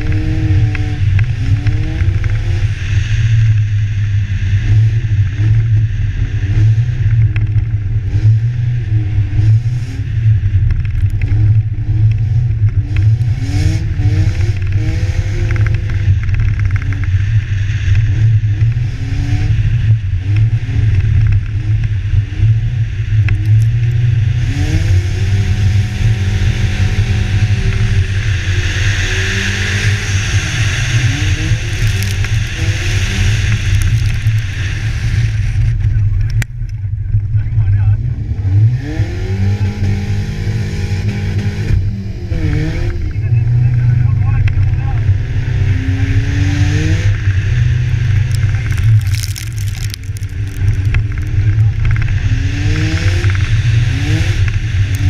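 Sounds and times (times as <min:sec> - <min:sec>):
car engine revving: 0:00.0 - 0:55.0
low rumble: 0:00.0 - 0:55.0.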